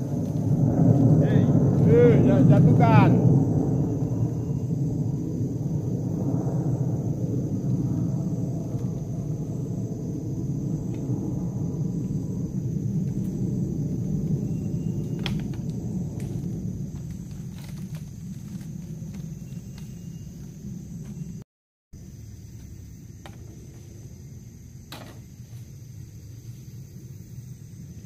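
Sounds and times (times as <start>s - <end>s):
aeroplane rumble overhead: 0.0s - 21.4s, 22.0s - 28.0s.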